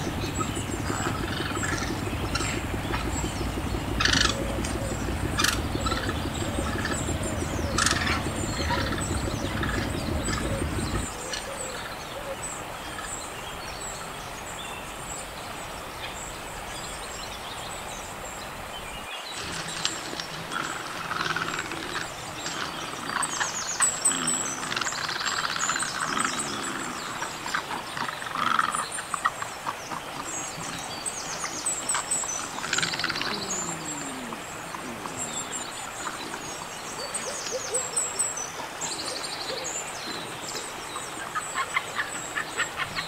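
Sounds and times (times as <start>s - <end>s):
low descending bird calls: 0.0s - 13.2s, 19.4s - 43.0s
birds chirping and trilling: 0.0s - 43.0s.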